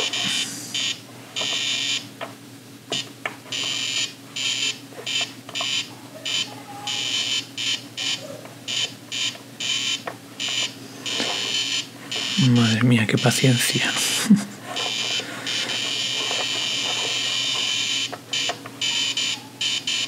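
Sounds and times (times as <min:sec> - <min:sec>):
electronic buzzer bursts: 0:00.0 - 0:02.1, 0:02.9 - 0:13.7, 0:14.8 - 0:20.0.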